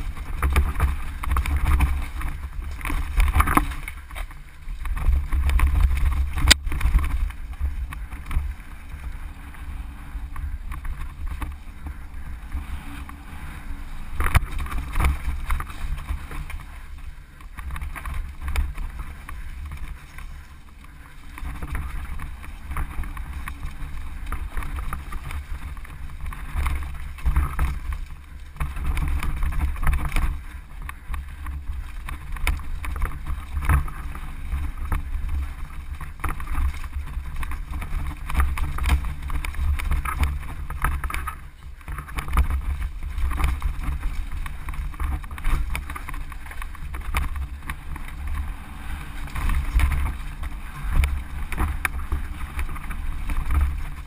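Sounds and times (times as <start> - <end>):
bike rattling: 0.0 - 54.0
bike tyres on dirt and stones: 0.0 - 54.0
wind on microphone: 0.0 - 54.0.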